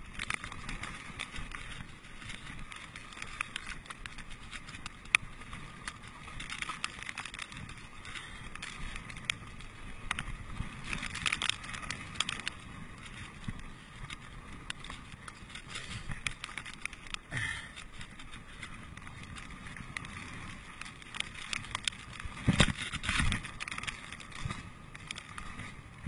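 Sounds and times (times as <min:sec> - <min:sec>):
bike clicks and rattles: 0:00.0 - 0:26.0.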